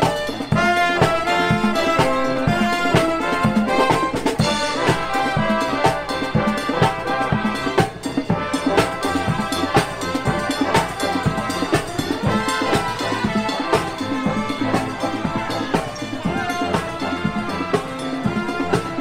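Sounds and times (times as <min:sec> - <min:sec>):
parade music with drum beat: 0:00.0 - 0:19.0.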